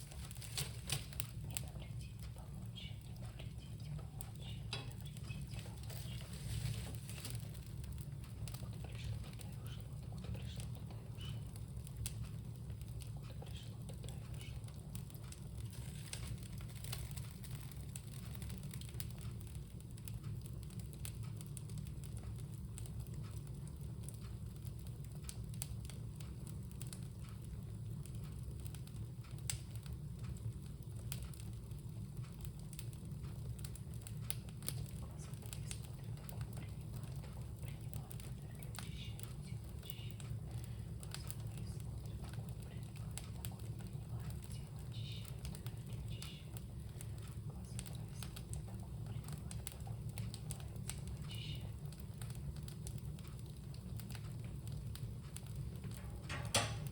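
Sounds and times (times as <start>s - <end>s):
fire pops: 0.0s - 56.9s
wood fire crackling: 0.0s - 56.9s.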